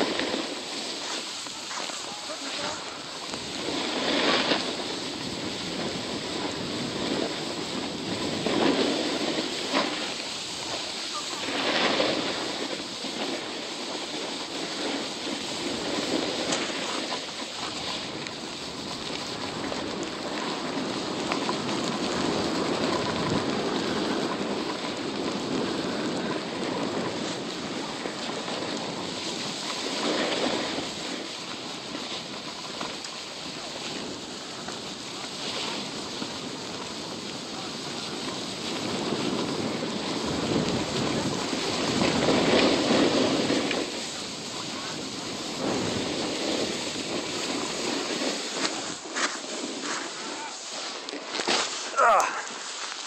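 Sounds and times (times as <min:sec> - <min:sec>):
wind on microphone: 0:00.0 - 0:50.7
snowboard sliding over snow: 0:00.0 - 0:53.0.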